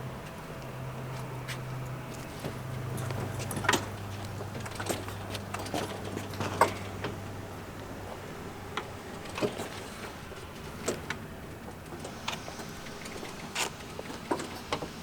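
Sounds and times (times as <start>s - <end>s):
light mechanical clicks and knocks: 1.2s - 7.9s, 8.7s - 15.0s.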